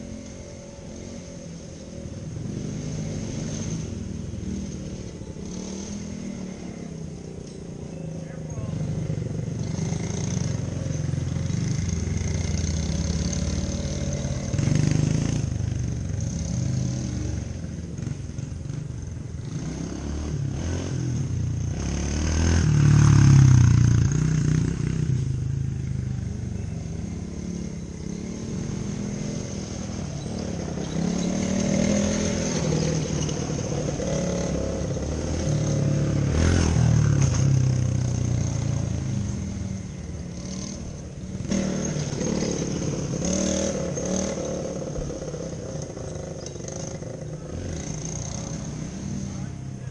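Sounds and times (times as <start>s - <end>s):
small engine revving: 0.0s - 49.9s.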